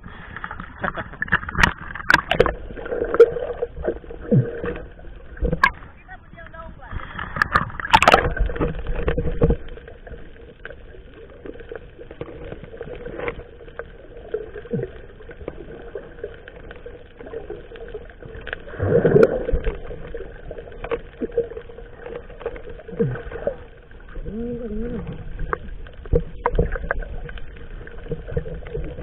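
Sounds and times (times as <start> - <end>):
faint steady hum: 0.0 - 29.0
water against boat hull: 0.0 - 29.0.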